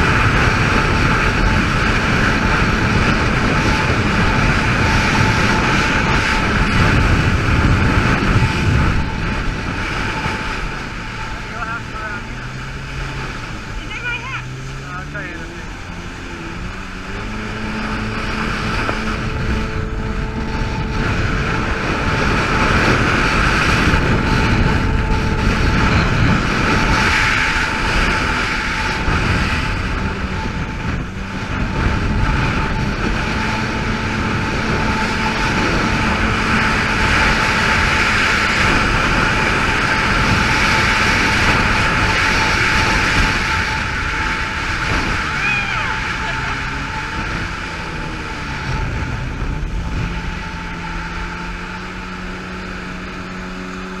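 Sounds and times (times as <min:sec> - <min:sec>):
jet ski engine running: 0:00.0 - 0:54.0
steady whine: 0:00.0 - 0:54.0.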